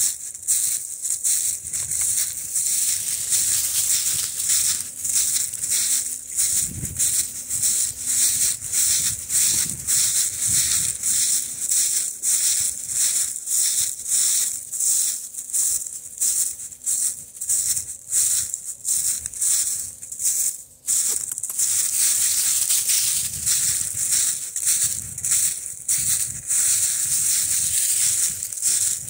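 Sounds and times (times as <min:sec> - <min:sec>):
footsteps crunching through dry leaves: 0:00.0 - 0:29.0.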